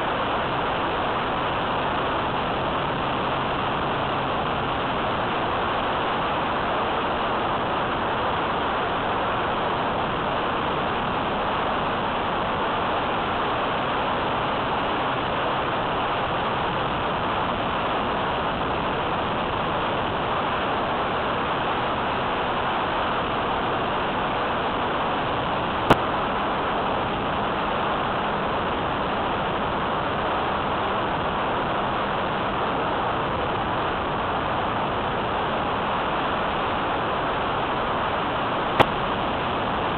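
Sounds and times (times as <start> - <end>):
model plane propeller noise: 0.0 - 39.9
wind on microphone: 0.0 - 39.9.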